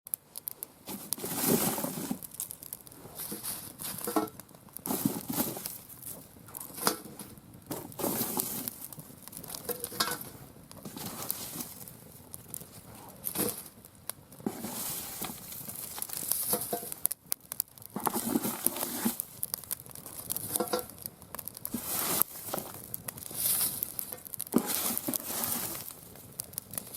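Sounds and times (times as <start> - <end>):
fire crackling and snapping: 0.1 - 26.9.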